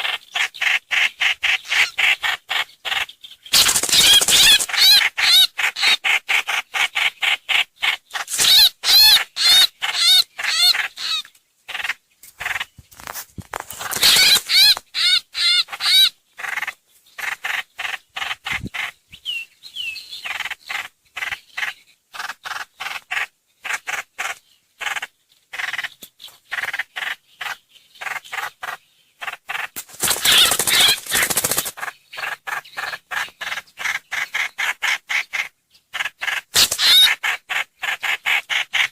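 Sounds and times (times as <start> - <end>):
songbird chirping and trilling: 0.0 - 13.1, 13.7 - 38.9.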